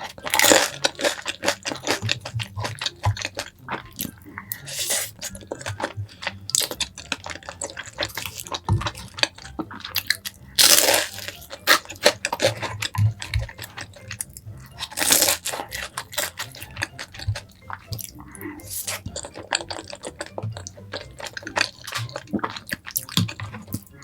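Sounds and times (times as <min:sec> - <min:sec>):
wet chewing: 0:00.0 - 0:24.0.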